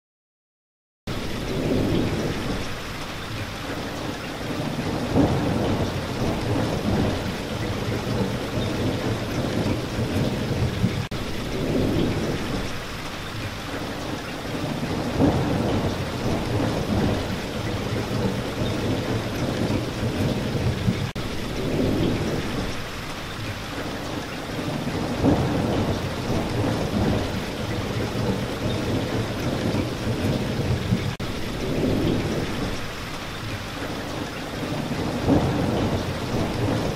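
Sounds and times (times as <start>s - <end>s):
steady rain: 1.1s - 36.9s
low thunder rumbling: 1.3s - 2.9s, 4.0s - 12.9s, 14.4s - 23.0s, 24.5s - 33.0s, 33.8s - 36.9s.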